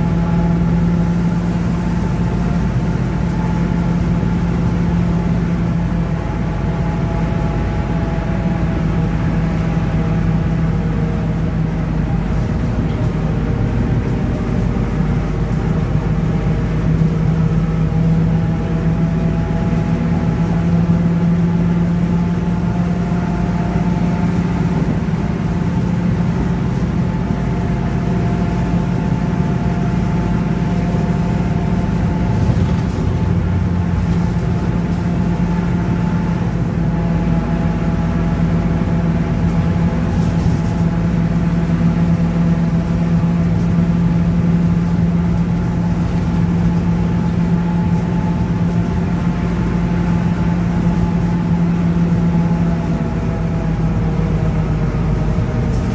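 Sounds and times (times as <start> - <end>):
bus differential droning: 0.0 - 55.9
bus engine: 0.0 - 55.9
road noise: 0.0 - 55.9.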